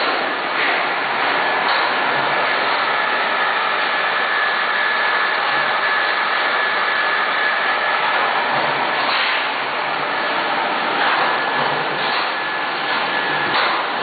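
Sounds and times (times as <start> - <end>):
exhaust blower running: 0.0 - 14.0.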